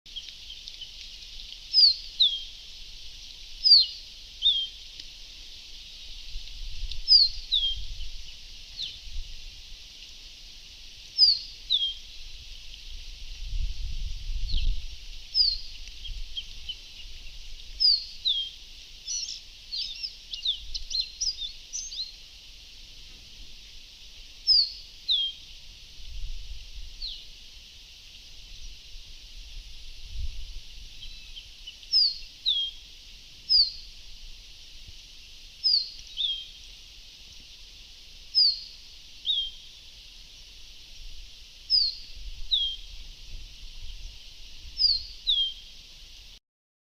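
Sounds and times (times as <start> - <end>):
steady high hiss: 0.1 - 46.4.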